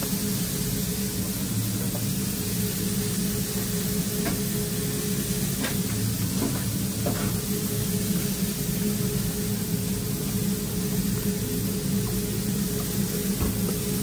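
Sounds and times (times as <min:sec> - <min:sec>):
kitchen machine hum and hiss: 0:00.0 - 0:14.0.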